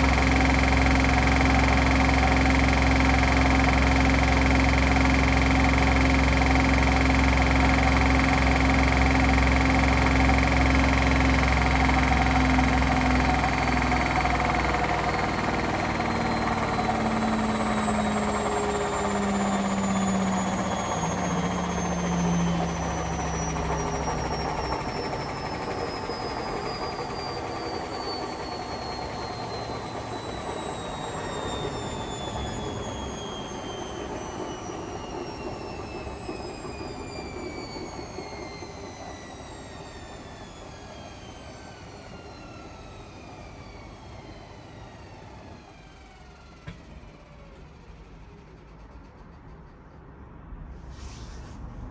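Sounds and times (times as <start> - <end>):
washing machine spin whine: 0.0 - 51.9.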